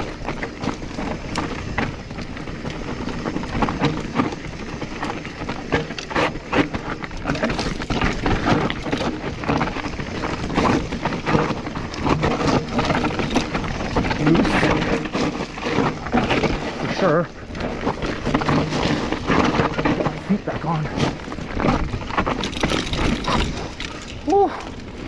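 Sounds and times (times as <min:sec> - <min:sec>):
bike and chain rattling: 0:00.0 - 0:25.0
tyres crunching on gravel: 0:00.0 - 0:25.0
wind noise on microphone: 0:00.0 - 0:25.0.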